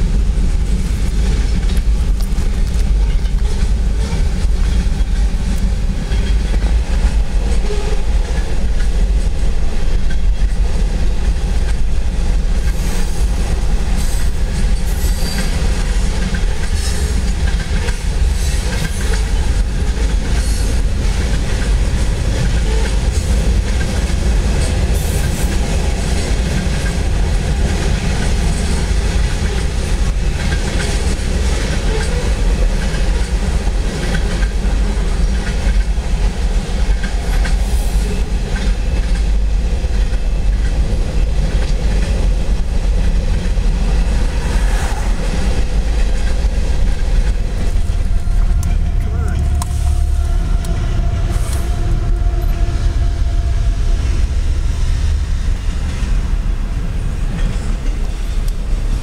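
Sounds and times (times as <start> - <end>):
wheels clacking over rail joints: 0.0 - 52.6
freight cars rumbling: 0.0 - 59.0.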